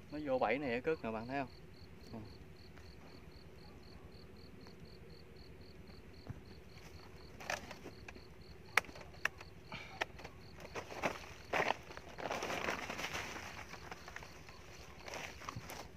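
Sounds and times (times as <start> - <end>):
insect chirping: 0.0 - 15.9.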